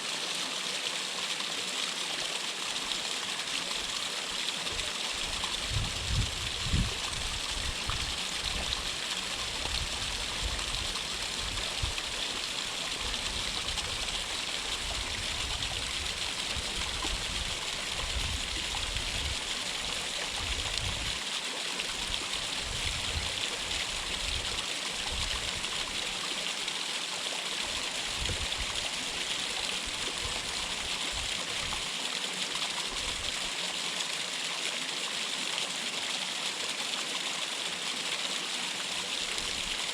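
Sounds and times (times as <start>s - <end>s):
water rushing down waterfall: 0.0s - 39.9s.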